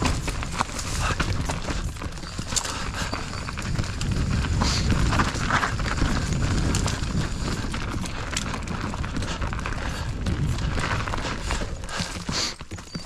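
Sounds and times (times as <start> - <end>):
bike clattering and rattling: 0.0 - 13.0
bike tyres rumbling on dirt: 0.0 - 13.0.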